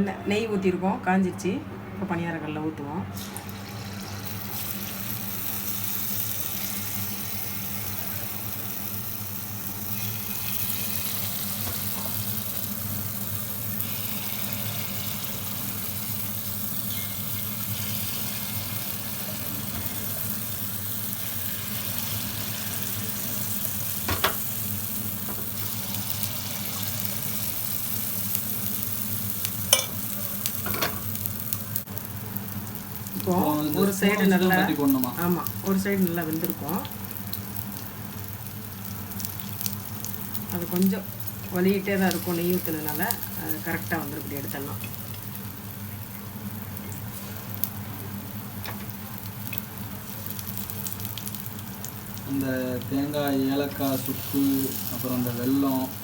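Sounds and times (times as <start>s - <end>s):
batter frying in oil: 3.2s - 56.0s.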